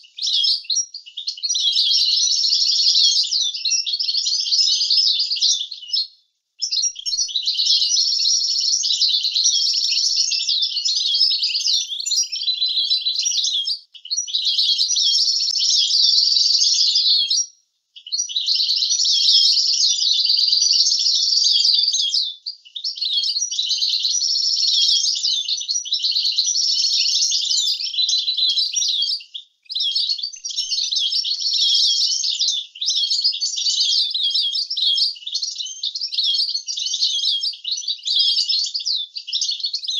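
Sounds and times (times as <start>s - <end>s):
goldfinch twittering song: 6.6s - 39.9s.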